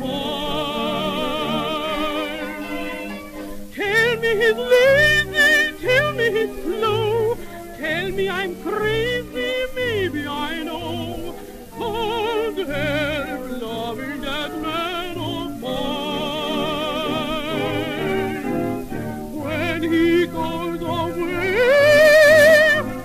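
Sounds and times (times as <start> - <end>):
light opera orchestra music: 0.0 - 23.0.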